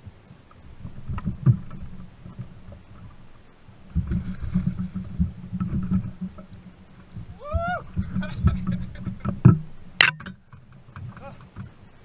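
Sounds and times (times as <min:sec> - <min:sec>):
faint water splashing: 0:00.0 - 0:12.0.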